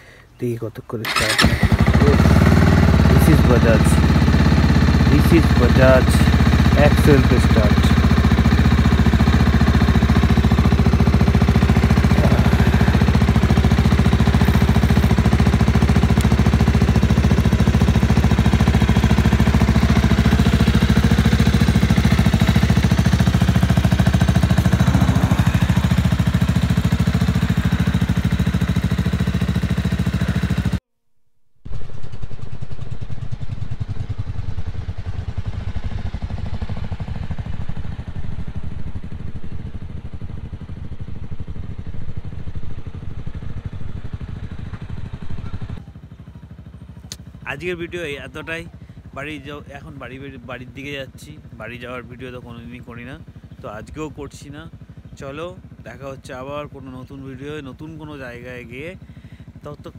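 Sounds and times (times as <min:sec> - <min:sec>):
motorcycle engine idling: 0:01.0 - 0:30.8, 0:31.7 - 0:59.9.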